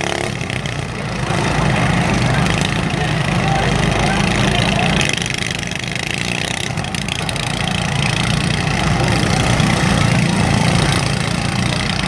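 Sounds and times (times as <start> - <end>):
lawn mower engines droning: 0.0 - 12.0.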